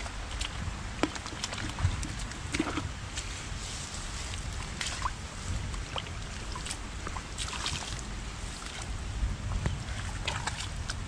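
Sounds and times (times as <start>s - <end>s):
water drips and splashes: 0.0s - 11.0s.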